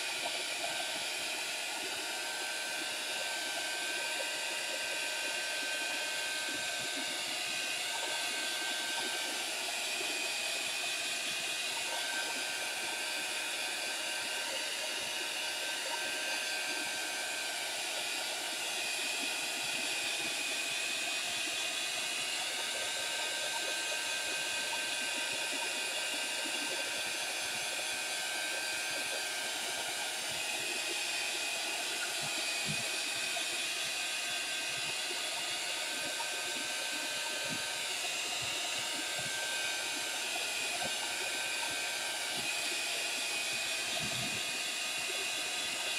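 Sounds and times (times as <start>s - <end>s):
handheld dryer blowing: 0.0s - 45.9s.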